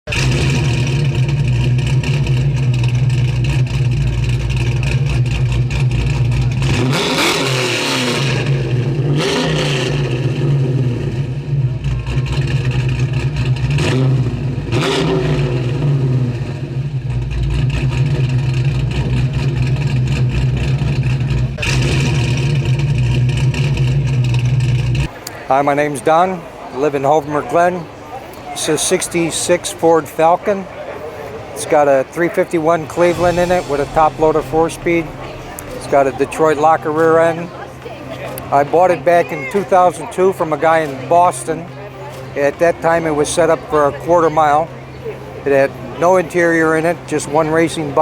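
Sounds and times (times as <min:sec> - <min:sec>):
car engine idling and revving: 0:00.1 - 0:25.4, 0:32.2 - 0:48.0.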